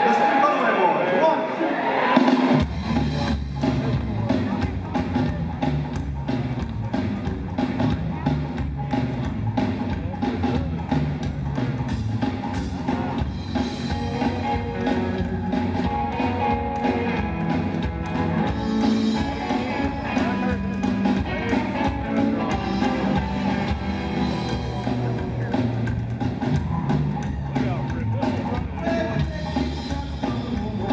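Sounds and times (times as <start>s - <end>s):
drums: 1.5s - 30.9s
electric guitar: 2.0s - 30.9s
upright bass: 2.6s - 30.9s.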